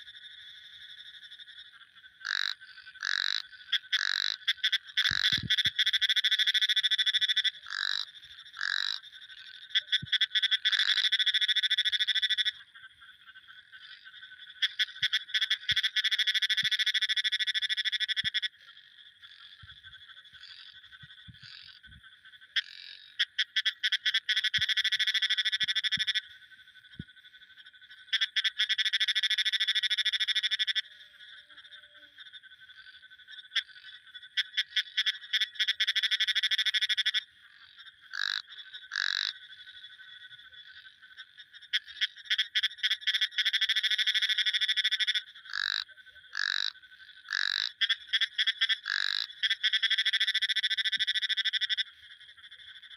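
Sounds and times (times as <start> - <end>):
faint frog chorus trilling: 0.0 - 52.9
frogs pulsed trills: 0.0 - 52.9.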